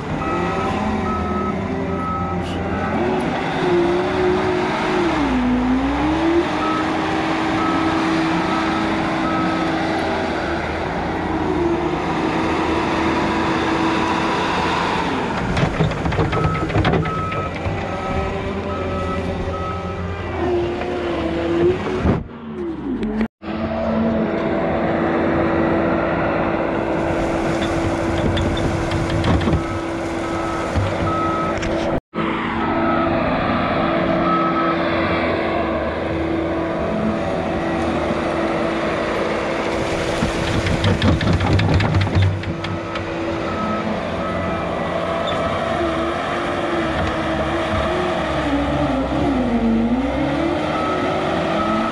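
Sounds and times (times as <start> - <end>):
diesel loader engine under load: 0.0 - 51.9.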